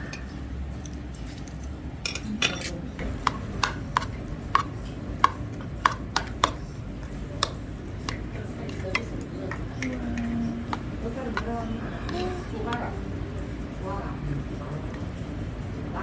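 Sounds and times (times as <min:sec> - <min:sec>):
utensils clinking against dishes: 0:00.0 - 0:13.2
low steady background noise: 0:00.0 - 0:16.0.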